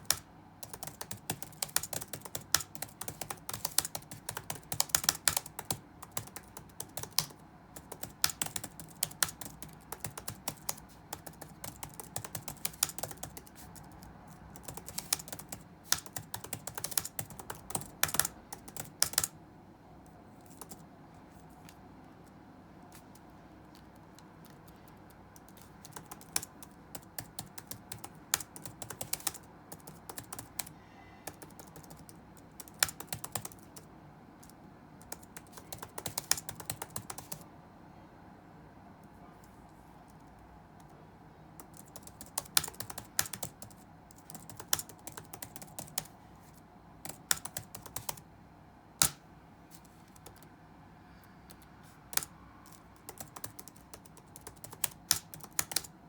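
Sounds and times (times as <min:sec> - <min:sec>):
keyboard typing: 0:00.0 - 0:19.4, 0:20.0 - 0:21.8, 0:22.9 - 0:37.4, 0:41.6 - 0:46.1, 0:47.0 - 0:48.2, 0:49.0 - 0:50.5, 0:51.2 - 0:56.0
faint background noise: 0:00.0 - 0:56.0.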